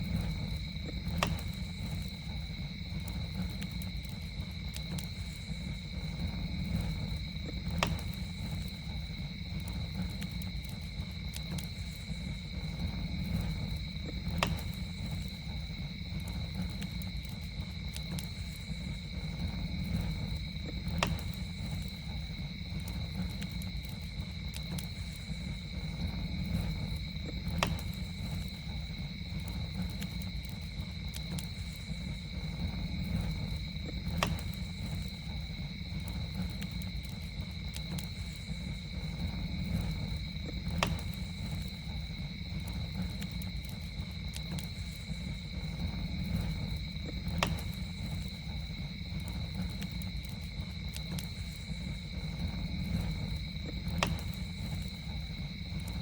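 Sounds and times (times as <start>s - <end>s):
campfire burning and popping: 0.0s - 56.0s
night insects droning: 0.0s - 56.0s.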